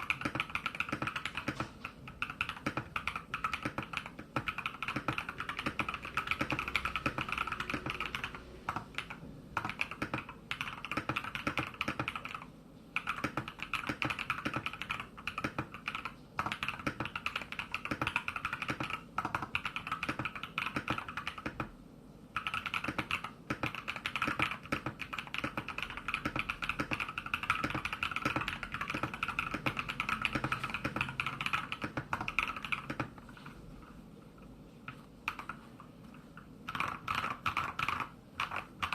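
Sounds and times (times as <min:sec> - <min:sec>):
fast typing on mechanical keyboard: 0:00.0 - 0:21.8, 0:22.4 - 0:33.4, 0:34.9 - 0:38.9.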